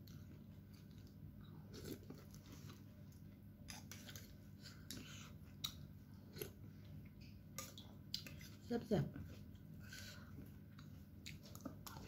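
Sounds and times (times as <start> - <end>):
person chewing food: 0.0 - 8.6, 9.3 - 12.0
low steady hum: 0.0 - 12.0.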